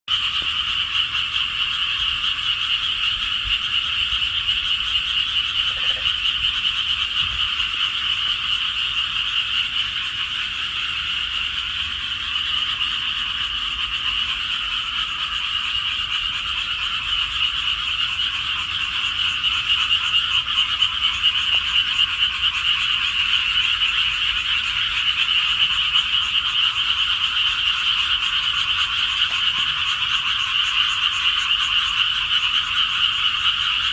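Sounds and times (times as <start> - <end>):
chorus of frogs trilling: 0.1 - 33.9.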